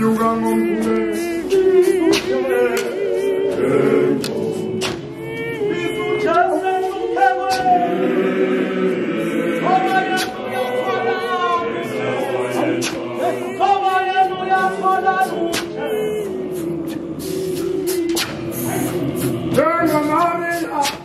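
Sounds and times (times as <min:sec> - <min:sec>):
mixed choir singing a cappella: 0:00.0 - 0:21.0.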